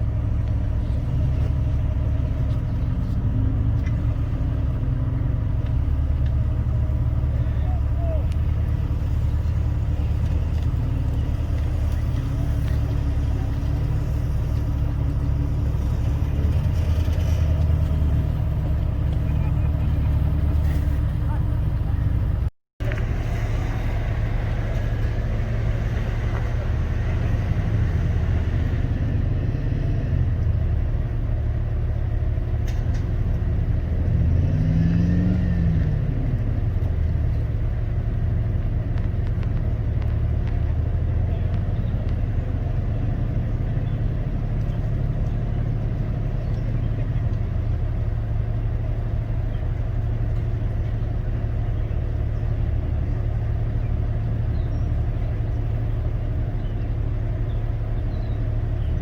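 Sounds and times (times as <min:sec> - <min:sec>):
vehicle engine running at low revs: 0:00.0 - 0:59.0.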